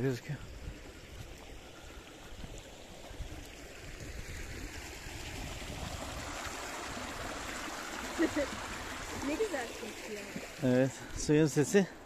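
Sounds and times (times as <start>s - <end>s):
river water rushing: 0.4s - 12.0s.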